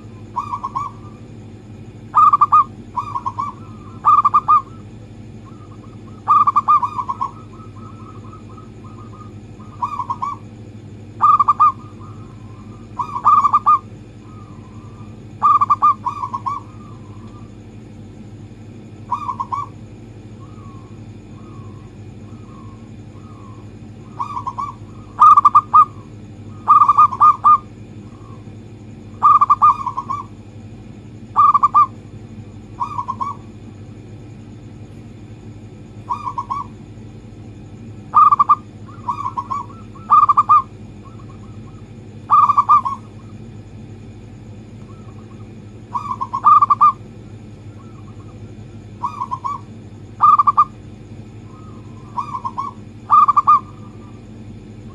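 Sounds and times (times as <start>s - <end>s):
dove cooing: 0.0s - 1.4s, 2.0s - 17.8s, 18.6s - 30.5s, 31.3s - 34.1s, 35.9s - 43.8s, 44.6s - 54.9s
steady low hum: 0.0s - 54.9s.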